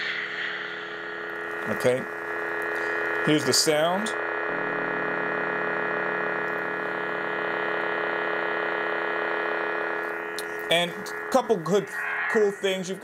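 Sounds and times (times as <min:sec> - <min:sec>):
toy lightsaber electronic hum: 0:00.0 - 0:13.0.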